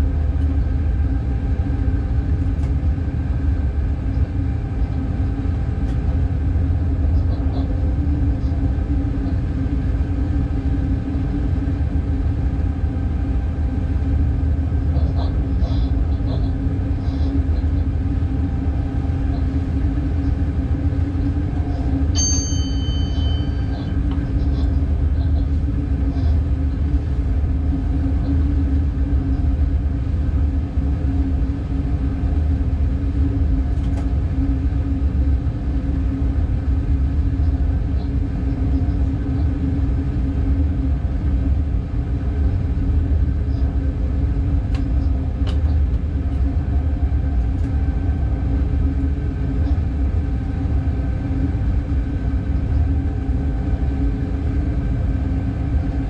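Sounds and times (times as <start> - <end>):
constant hum: 0.0 - 56.0
train running rumble: 0.0 - 56.0.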